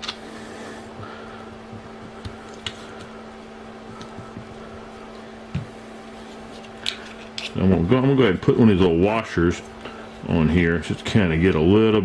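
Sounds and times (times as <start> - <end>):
room tone hum: 0.0 - 12.0.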